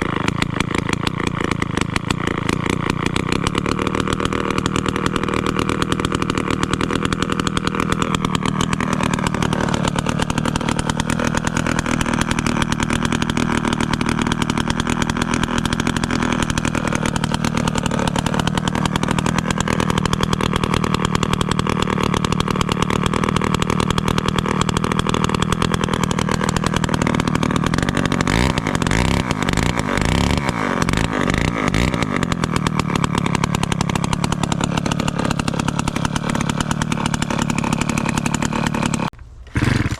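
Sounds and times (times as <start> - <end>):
chainsaw two-stroke engine running: 0.0 - 39.9.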